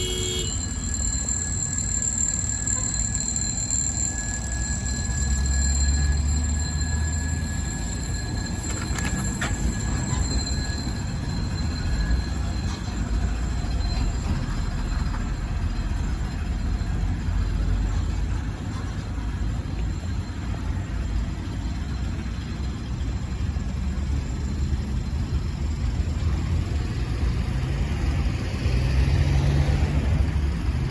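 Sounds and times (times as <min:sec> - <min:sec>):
high wheel squeal: 0:00.0 - 0:30.9
tram rumbling on rails: 0:00.0 - 0:30.9.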